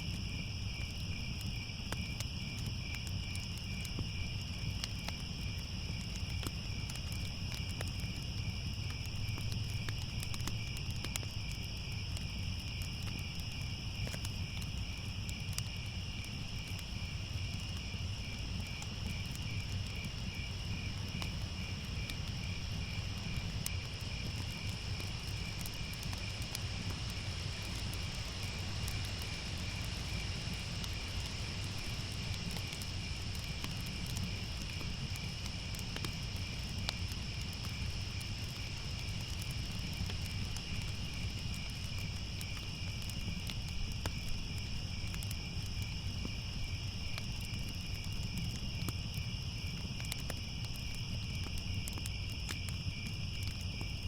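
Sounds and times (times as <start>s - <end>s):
crickets chirping: 0.0s - 54.0s
fire crackling: 0.0s - 54.0s.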